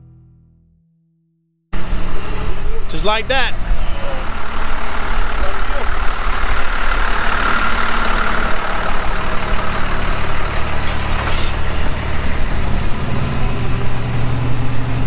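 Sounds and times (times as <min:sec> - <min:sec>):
truck engine idling: 0:01.8 - 0:15.0.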